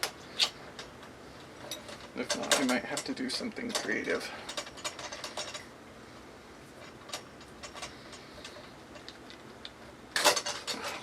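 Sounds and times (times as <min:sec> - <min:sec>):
metal clinking and rattling: 0:00.0 - 0:05.7, 0:06.8 - 0:11.0.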